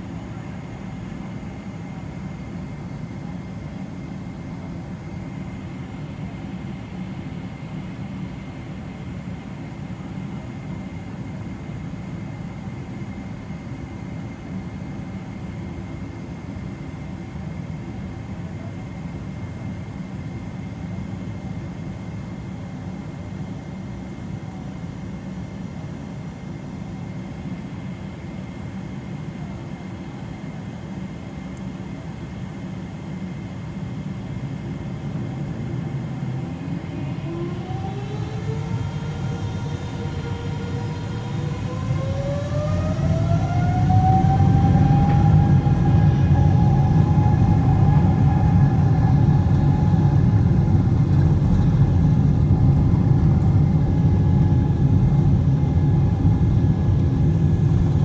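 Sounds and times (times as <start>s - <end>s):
aircraft cabin low rumble: 0.0s - 58.0s
faint high engine whine: 0.0s - 58.0s.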